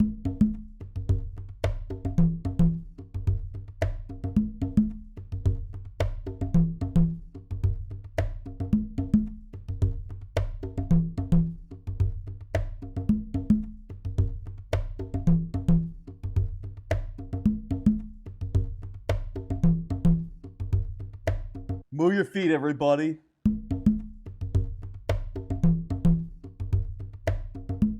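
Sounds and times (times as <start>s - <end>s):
instrumental music with beat: 0.0s - 21.9s, 23.5s - 27.9s.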